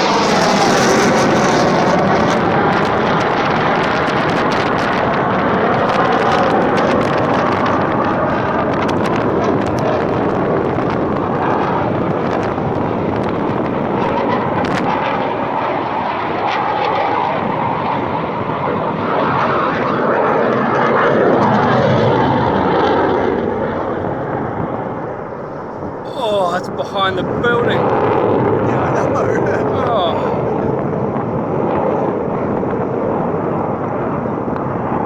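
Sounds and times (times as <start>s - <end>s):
fighter jet flying overhead: 0.0s - 26.0s, 27.4s - 35.0s.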